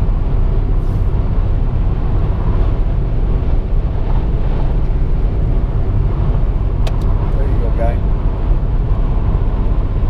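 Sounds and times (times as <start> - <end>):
car tyres and engine rumble: 0.0 - 10.0
wind noise: 0.0 - 10.0.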